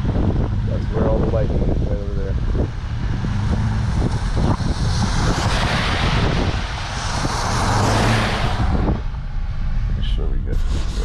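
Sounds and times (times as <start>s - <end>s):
car engine humming: 0.0s - 11.0s
vehicle passing by: 0.2s - 11.0s.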